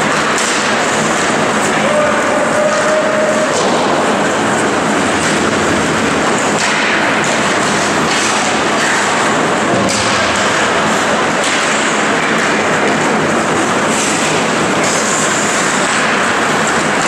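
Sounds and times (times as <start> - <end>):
hockey sticks and puck clacking: 0.0 - 17.0
skates on ice and arena noise: 0.0 - 17.0.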